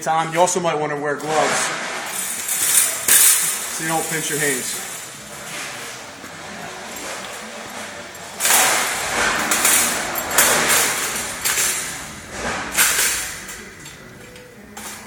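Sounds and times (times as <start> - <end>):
metal shelf scraping and clanking: 1.2 - 15.0.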